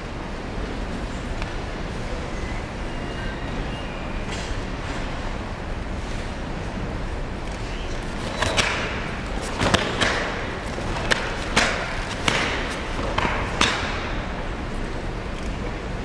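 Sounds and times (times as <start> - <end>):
sports hall background noise: 0.0 - 16.0.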